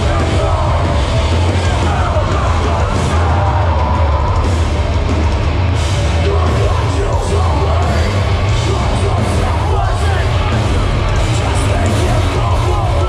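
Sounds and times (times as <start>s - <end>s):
live hardcore band playing: 0.0s - 13.0s.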